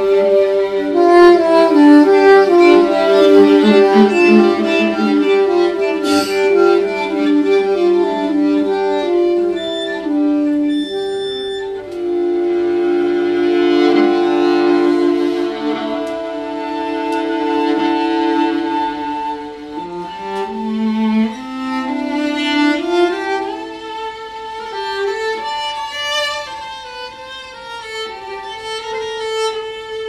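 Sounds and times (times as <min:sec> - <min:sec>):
soprano saxophone: 0:00.0 - 0:30.0
viola: 0:00.0 - 0:30.0
violin: 0:00.0 - 0:30.0.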